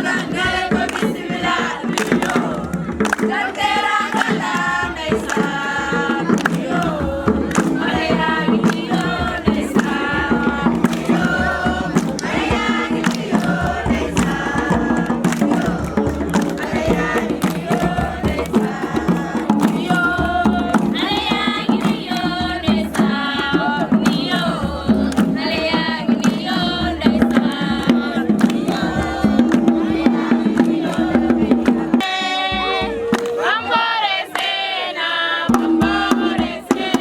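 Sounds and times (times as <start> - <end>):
group of young people singing: 0.0 - 37.0
percussion beat: 0.0 - 37.0.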